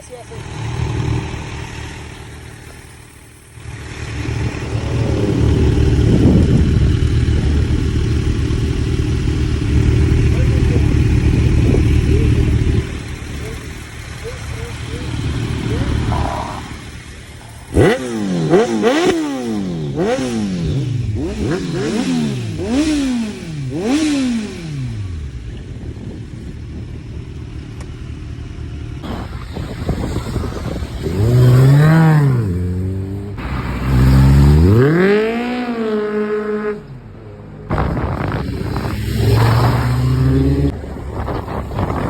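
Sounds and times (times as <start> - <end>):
engine revving: 0.0 - 25.5, 28.9 - 37.0, 37.7 - 42.0.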